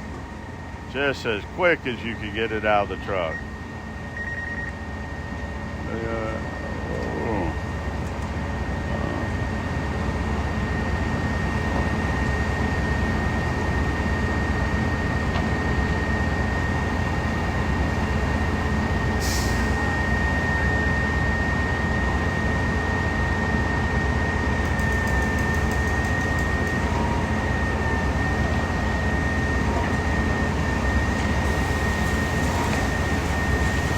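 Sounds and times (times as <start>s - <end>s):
diesel engines rumbling: 0.0s - 33.9s.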